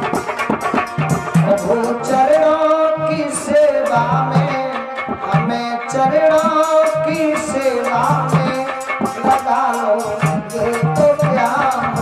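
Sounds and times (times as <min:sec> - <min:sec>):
hand drum beats: 0:00.0 - 0:12.0
man singing into a microphone: 0:01.2 - 0:12.0.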